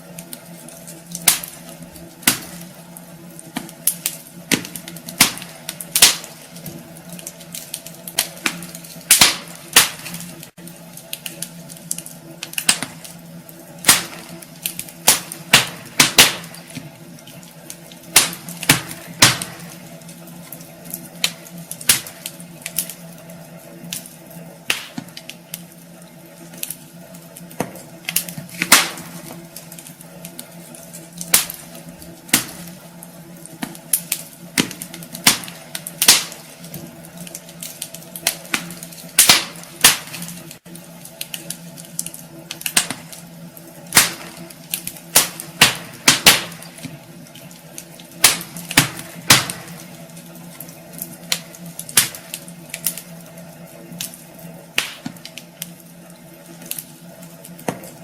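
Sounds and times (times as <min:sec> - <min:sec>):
steady low hum: 0:00.0 - 0:58.0
wood fire crackling and popping: 0:00.0 - 0:58.0.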